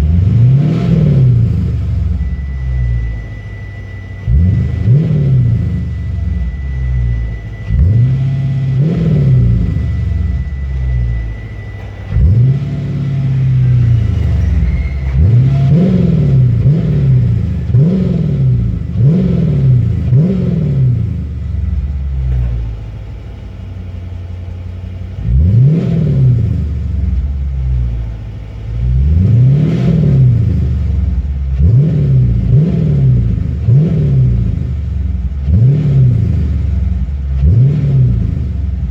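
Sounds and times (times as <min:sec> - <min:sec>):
car engine throttle blips: 0:00.0 - 0:38.9.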